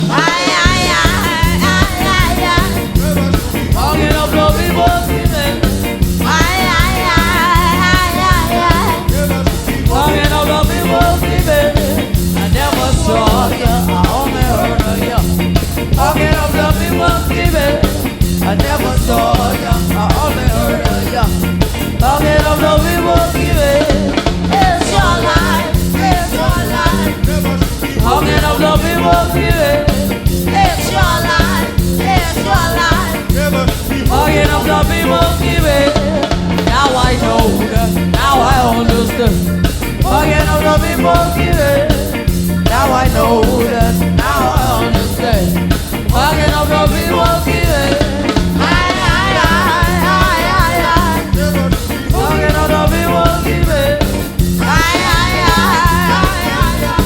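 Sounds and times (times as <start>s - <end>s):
woman singing: 0.0s - 15.3s, 15.9s - 21.4s, 22.0s - 57.0s
ska band playing: 0.0s - 57.0s.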